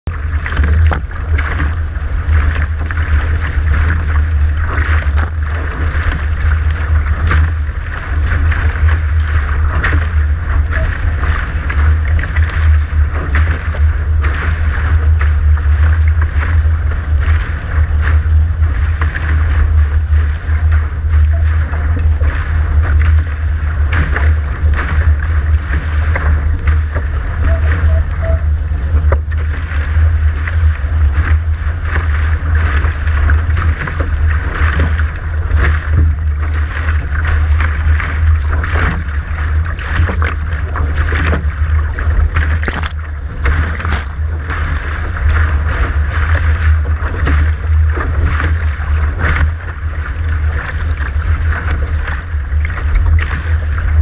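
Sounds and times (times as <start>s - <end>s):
water rushing along hull: 0.0s - 54.0s
wind rumble on microphone: 0.0s - 54.0s.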